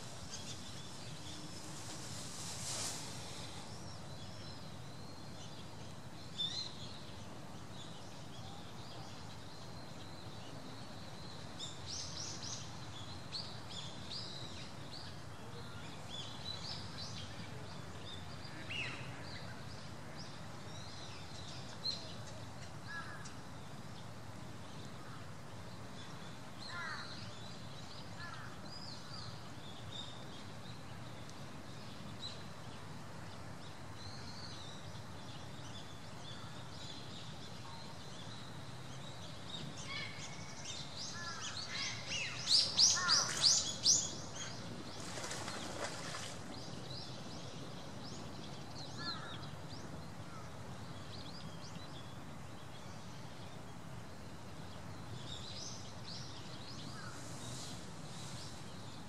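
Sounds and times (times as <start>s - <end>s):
wild birds chirping: 0.0s - 59.0s.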